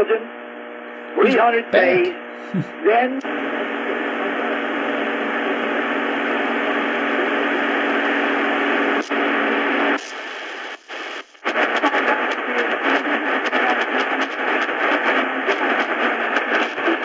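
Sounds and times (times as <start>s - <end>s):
radio static and hiss: 1.1s - 17.0s.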